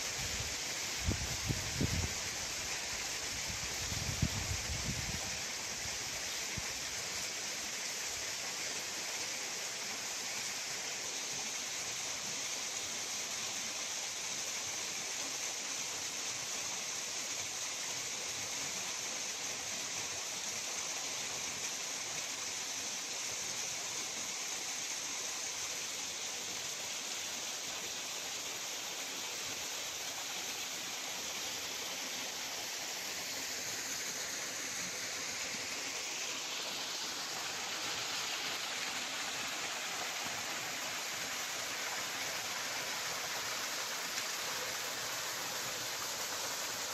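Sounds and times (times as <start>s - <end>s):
waterfall pouring over rocks: 0.0s - 46.9s.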